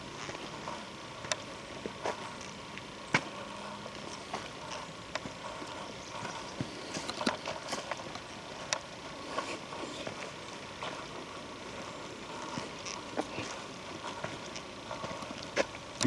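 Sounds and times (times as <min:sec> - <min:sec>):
footsteps on forest litter: 0:00.1 - 0:15.9.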